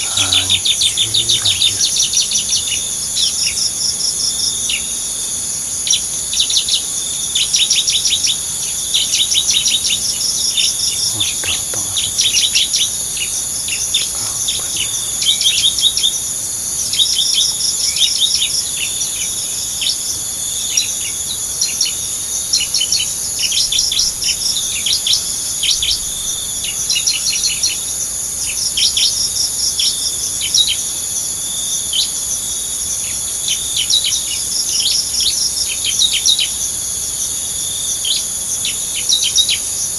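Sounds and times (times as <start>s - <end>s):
high-pitched insect drone: 0.0s - 34.6s.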